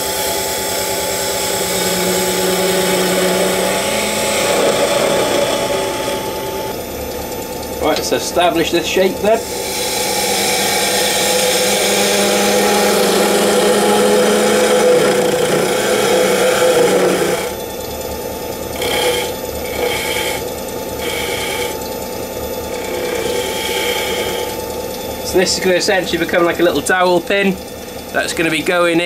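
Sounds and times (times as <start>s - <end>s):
gouge cutting wood on lathe: 0.0s - 6.9s, 8.9s - 17.8s, 18.5s - 26.8s
lathe humming: 0.0s - 29.0s.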